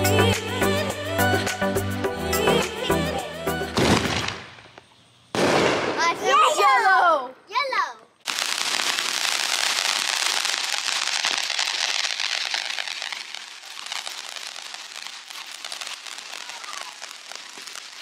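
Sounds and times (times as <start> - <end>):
firework fizzing and crackling: 0.0 - 7.1, 8.2 - 18.0.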